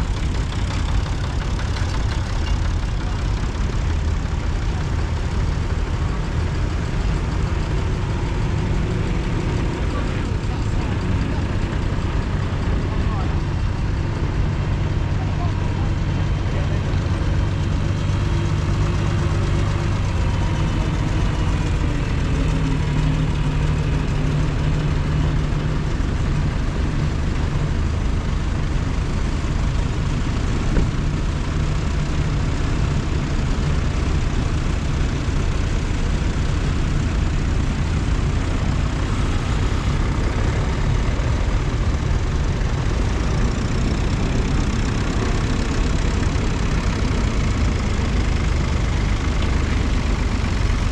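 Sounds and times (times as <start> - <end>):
tractor engines running: 0.0 - 50.9.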